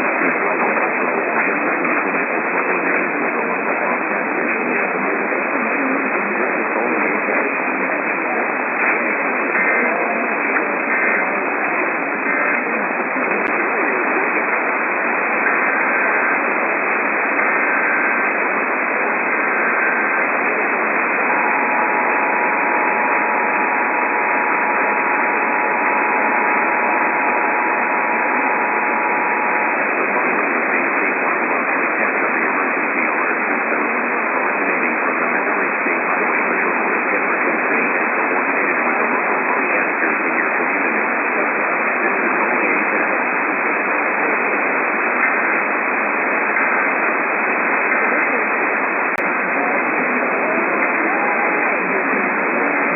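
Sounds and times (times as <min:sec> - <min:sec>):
radio static: 0:00.0 - 0:52.9.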